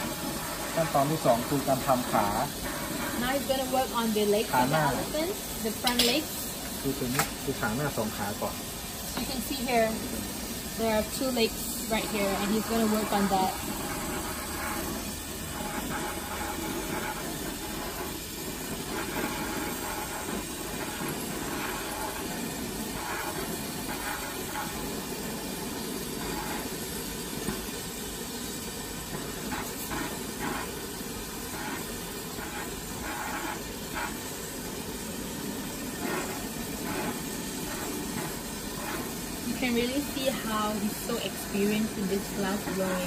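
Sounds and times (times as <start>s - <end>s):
gas torch flame hissing: 0.0s - 43.0s.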